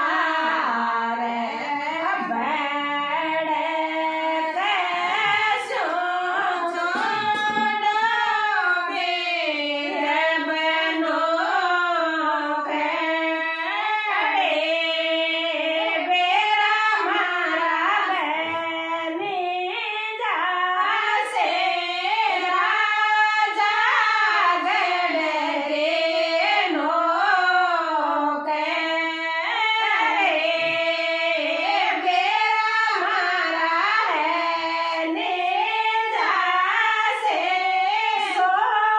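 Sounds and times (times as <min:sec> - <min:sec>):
women singing unaccompanied: 0:00.0 - 0:38.9.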